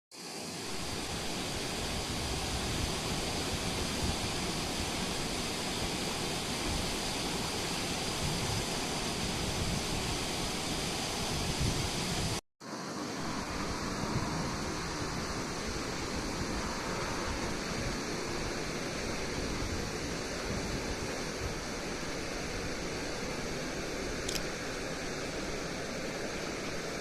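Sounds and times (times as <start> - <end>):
river water rushing: 0.2 - 27.0.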